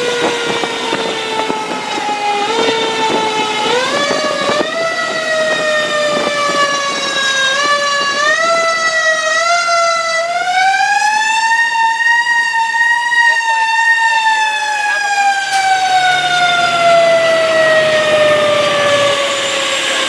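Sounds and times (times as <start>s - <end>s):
fire engine siren wailing: 0.0s - 20.0s.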